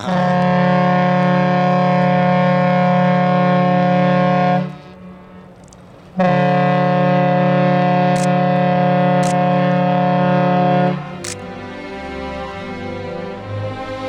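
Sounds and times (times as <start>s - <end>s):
ship's horn blast: 0.0s - 14.0s.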